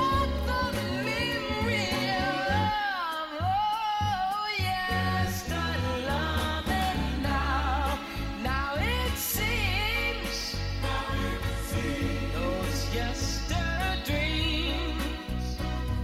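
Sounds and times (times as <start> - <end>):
low bass accompaniment: 0.0 - 2.8, 4.9 - 16.0
sung melody: 0.0 - 3.0, 4.8 - 16.0.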